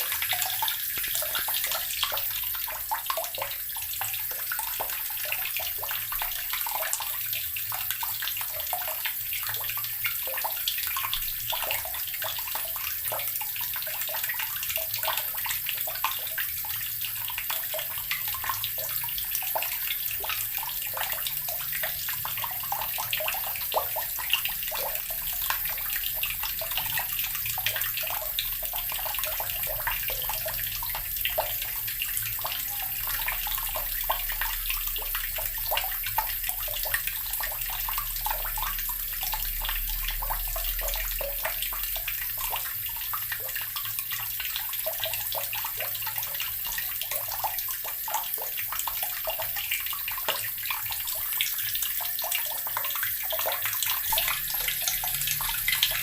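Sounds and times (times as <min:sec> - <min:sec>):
tap water splashing into basin: 0:00.0 - 0:56.0.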